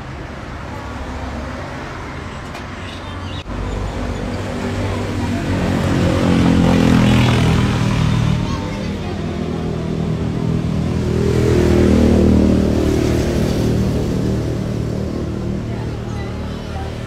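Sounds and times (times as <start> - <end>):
vehicle engine passing by: 3.2 - 17.0.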